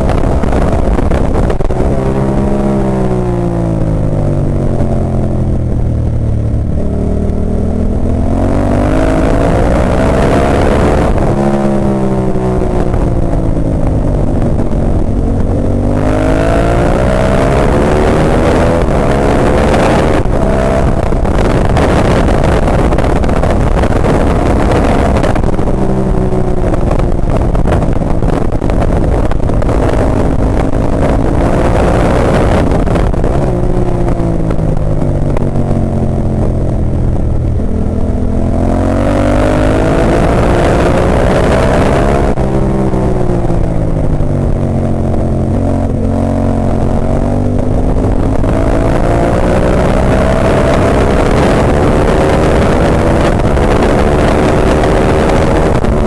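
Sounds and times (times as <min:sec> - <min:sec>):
motorcycle engine at racing pace: 0:00.0 - 0:56.0.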